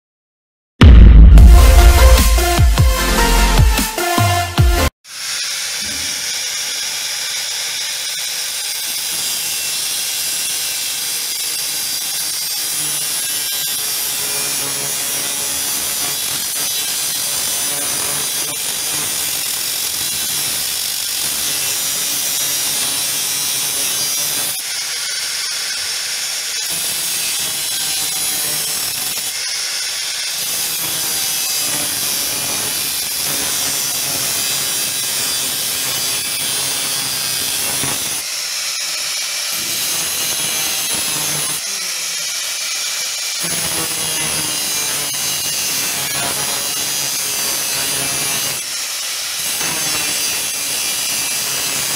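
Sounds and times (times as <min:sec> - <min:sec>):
angle grinder grinding steel: 0:05.1 - 0:51.9.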